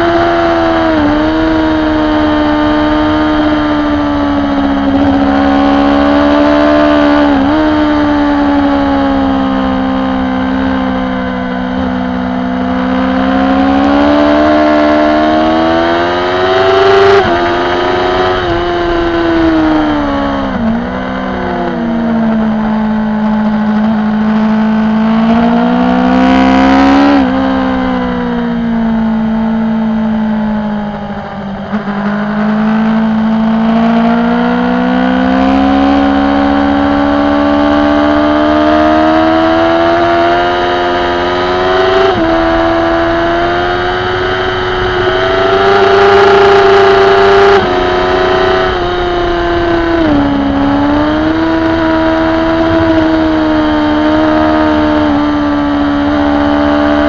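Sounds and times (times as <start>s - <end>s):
motorcycle engine at racing speed: 0.0s - 57.0s.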